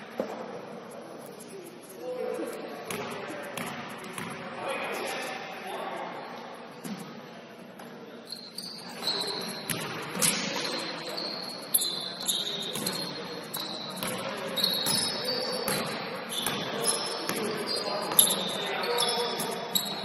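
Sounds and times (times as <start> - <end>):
shoes squeaking on gym court: 0.2 - 5.3, 6.3 - 20.0.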